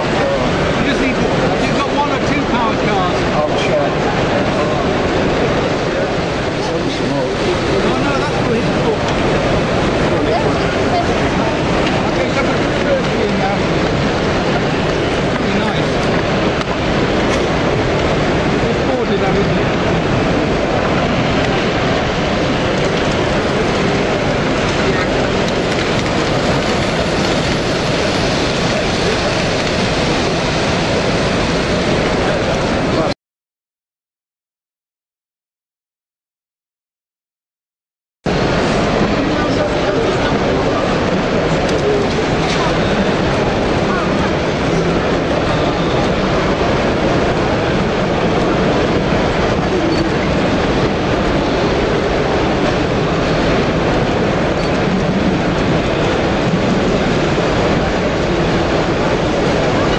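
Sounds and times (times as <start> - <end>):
model train running on track: 0.0 - 33.1, 38.3 - 59.9
crowd chatter: 0.0 - 33.2, 38.3 - 59.9.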